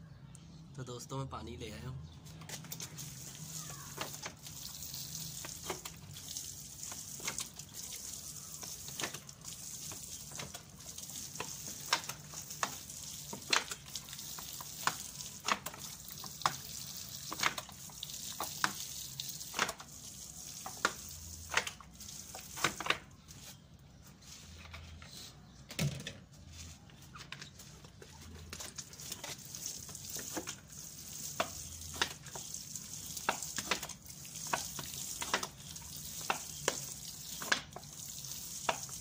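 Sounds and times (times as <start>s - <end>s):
water sprinkling onto soil: 2.6s - 23.6s, 28.2s - 39.0s.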